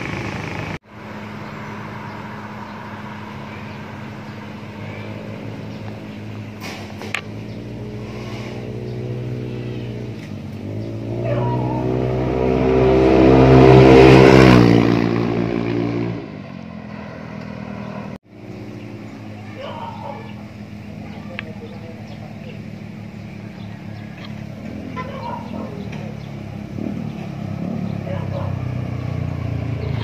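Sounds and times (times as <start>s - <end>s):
scooter engine passing: 0.0s - 30.0s.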